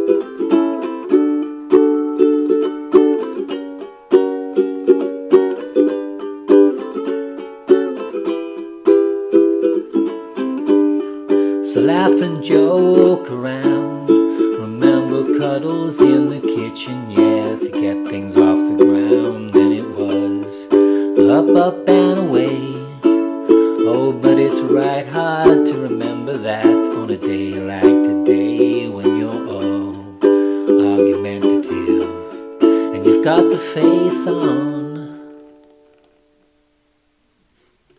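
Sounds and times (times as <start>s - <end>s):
ukulele strumming: 0.0s - 36.8s.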